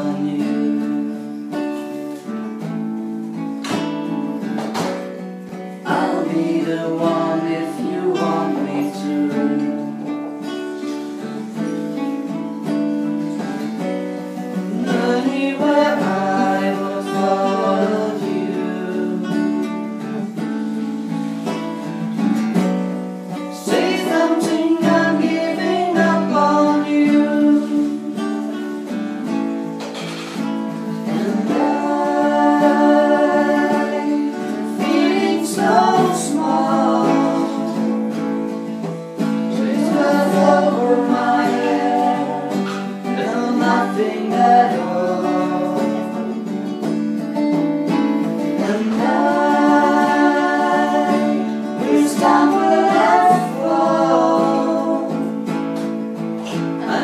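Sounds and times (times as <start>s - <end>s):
person singing: 0.0s - 2.3s, 5.4s - 12.0s, 13.3s - 21.9s, 22.5s - 47.0s, 47.9s - 57.0s
acoustic guitars strummed: 0.0s - 57.0s.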